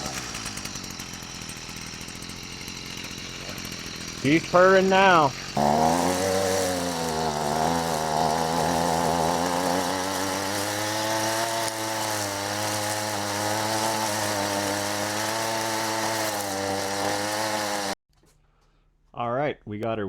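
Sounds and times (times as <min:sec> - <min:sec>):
string trimmer engine purring: 0:00.0 - 0:18.0.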